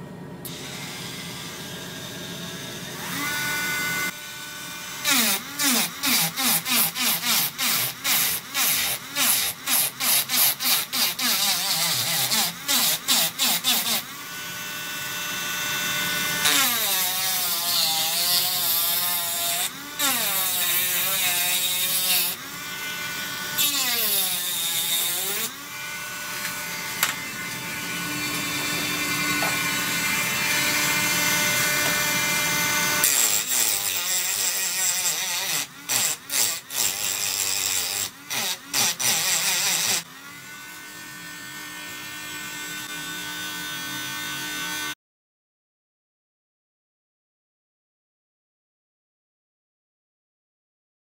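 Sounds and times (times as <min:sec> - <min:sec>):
rotary tool motor whine: 0:00.5 - 0:44.9.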